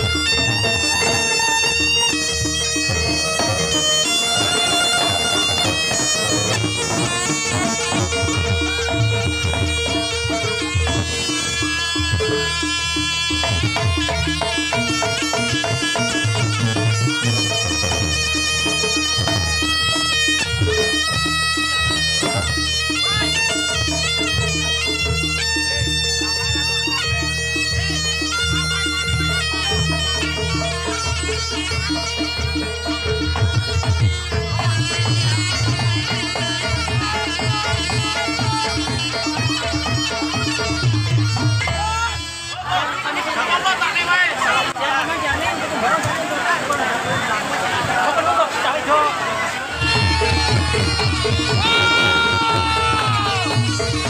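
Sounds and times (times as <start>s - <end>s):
drums and gongs beat: 0.0s - 42.7s, 49.7s - 54.0s
shawm playing melody: 0.0s - 54.0s.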